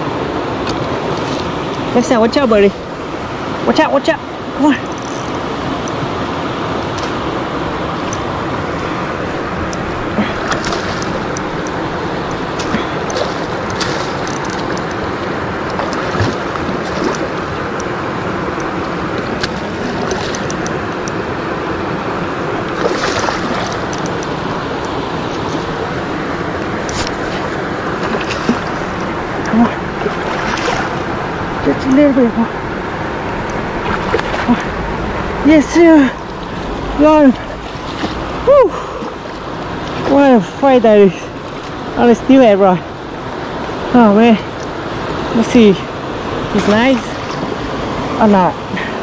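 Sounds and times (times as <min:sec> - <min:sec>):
river rushing over rocks: 0:00.0 - 0:49.0.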